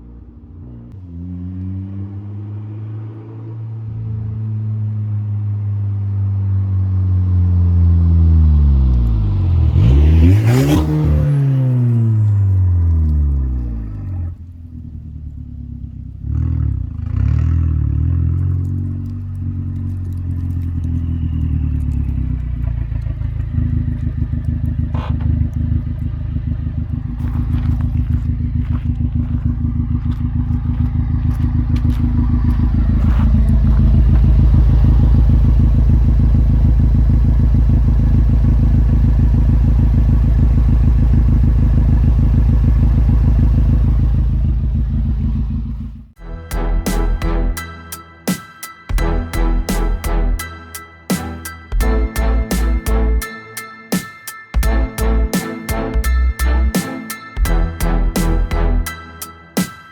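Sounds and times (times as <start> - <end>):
car engine rumbling: 0.0 - 47.6, 51.4 - 53.3, 54.6 - 56.8, 57.4 - 59.0.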